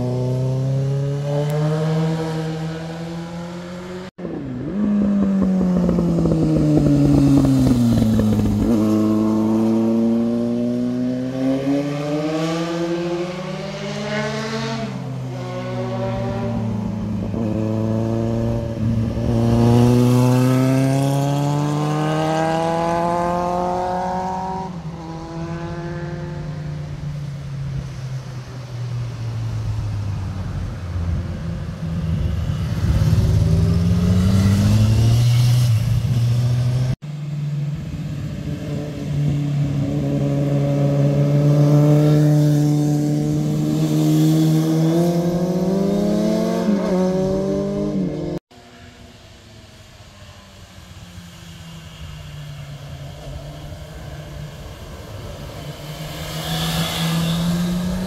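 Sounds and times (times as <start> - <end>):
motorcycles accelerating past: 0.0 - 48.4, 51.4 - 58.0.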